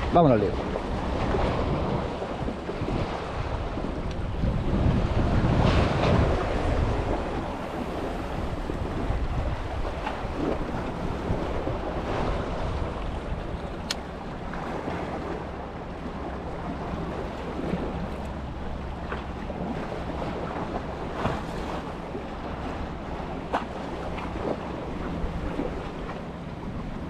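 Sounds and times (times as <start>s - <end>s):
sea water lapping and splashing: 0.0s - 27.0s
wind buffeting microphone: 0.0s - 27.0s.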